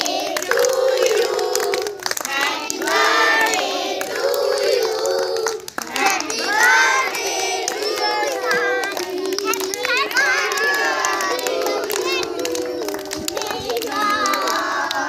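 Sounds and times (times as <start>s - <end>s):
children singing together: 0.0s - 15.0s
hand claps: 0.0s - 15.0s.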